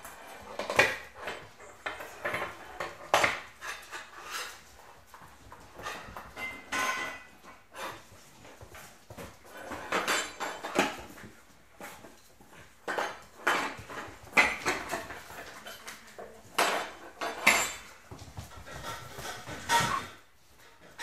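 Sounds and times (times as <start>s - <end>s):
paws clattering on wood: 0.0s - 21.0s.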